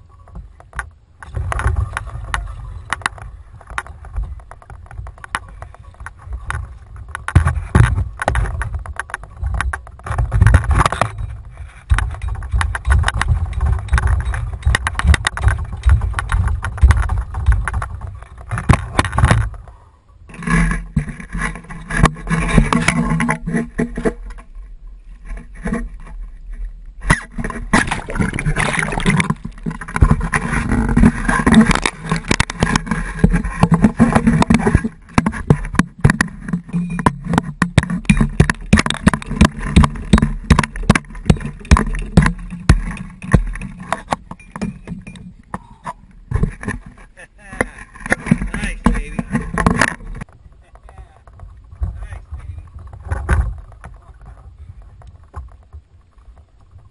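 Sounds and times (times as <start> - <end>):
knocks and scrapes on kayak: 0.0 - 56.9
low steady hum: 0.0 - 56.9
wind and water rumbling: 0.0 - 56.9.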